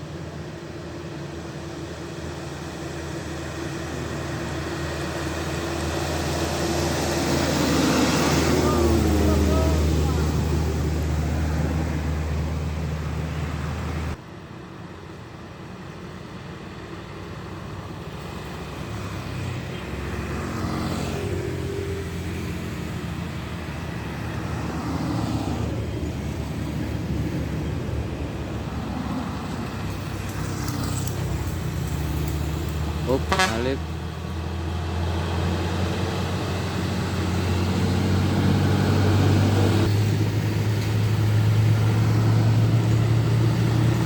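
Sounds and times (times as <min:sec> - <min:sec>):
truck engines under load: 0:00.0 - 0:44.0
vehicles passing: 0:00.0 - 0:44.0.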